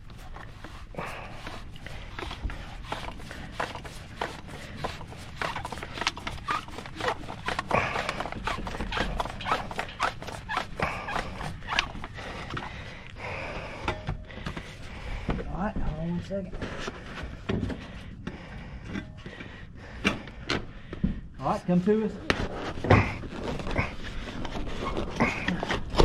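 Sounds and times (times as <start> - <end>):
vent pipe clicks and scraping: 0.0 - 13.2, 13.8 - 26.0.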